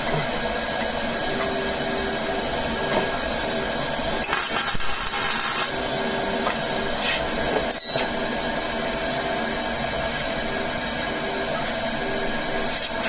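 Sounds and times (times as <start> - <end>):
welder arc crackling: 0.0 - 13.0
welding machine hum: 0.0 - 13.0.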